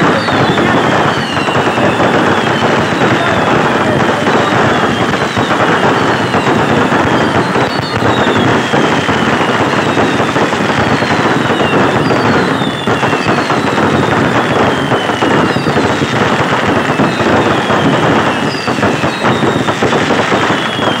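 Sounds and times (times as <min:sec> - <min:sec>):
falling firework whistles: 0:00.0 - 0:21.0
fireworks crackling and banging: 0:00.0 - 0:21.0.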